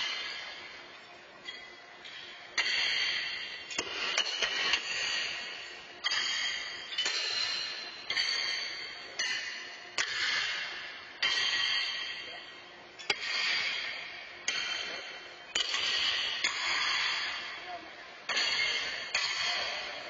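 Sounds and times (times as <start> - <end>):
horseshoes clanging against steel stakes: 0.0 - 17.6, 18.3 - 20.0.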